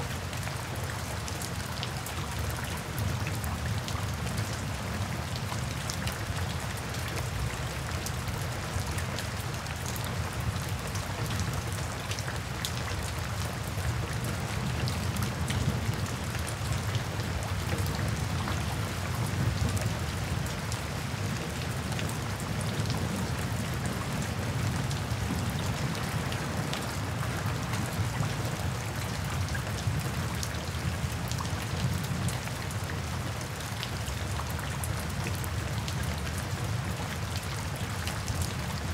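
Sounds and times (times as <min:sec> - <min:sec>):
rain on wet pavement: 0:00.0 - 0:38.9.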